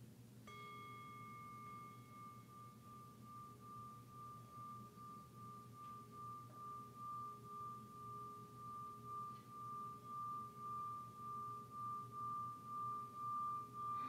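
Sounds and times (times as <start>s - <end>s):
singing bowl ringing: 0.5s - 14.0s.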